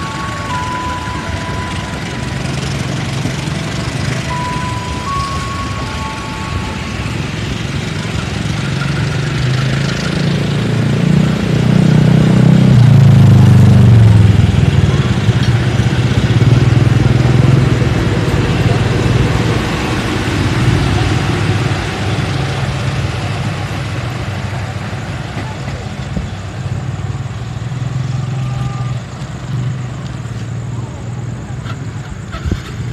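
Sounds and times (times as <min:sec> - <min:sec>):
locomotive engine powering up: 0:00.0 - 0:32.9.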